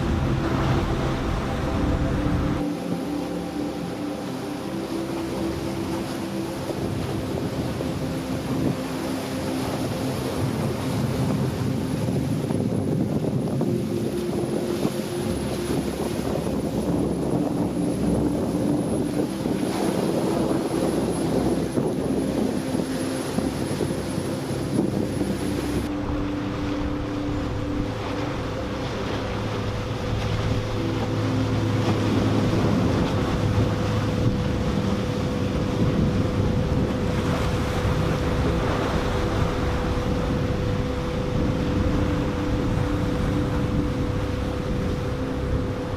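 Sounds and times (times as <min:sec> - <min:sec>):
motorboat engines running: 0:00.0 - 0:45.9
surf: 0:00.0 - 0:45.9
wind: 0:00.0 - 0:45.9.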